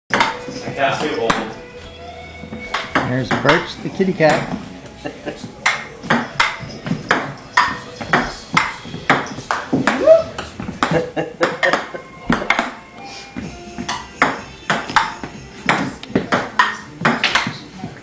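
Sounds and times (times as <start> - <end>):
ping-pong ball hitting paddles and table: 0.1 - 1.7, 2.4 - 4.6, 5.6 - 18.0.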